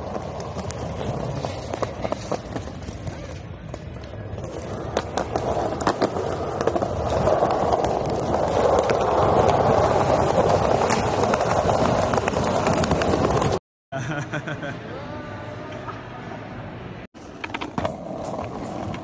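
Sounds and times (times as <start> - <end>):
skateboard wheels rolling on stone: 0.0 - 13.6, 17.2 - 19.0.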